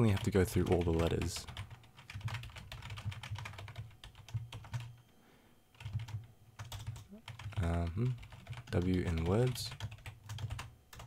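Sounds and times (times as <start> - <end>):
typing on computer keyboard: 0.1 - 4.9, 5.8 - 11.0.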